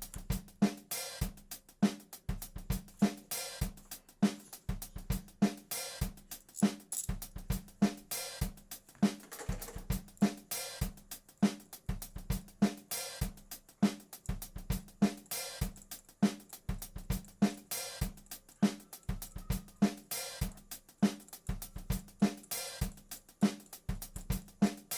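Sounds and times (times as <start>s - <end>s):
drum kit beat: 0.0s - 24.9s.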